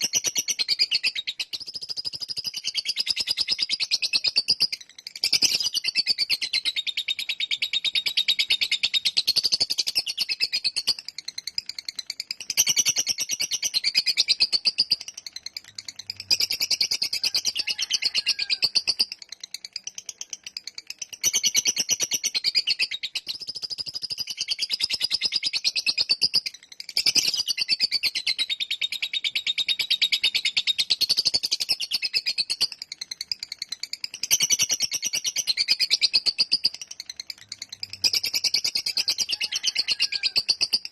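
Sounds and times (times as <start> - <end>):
lovebird chattering: 0.0 - 40.9.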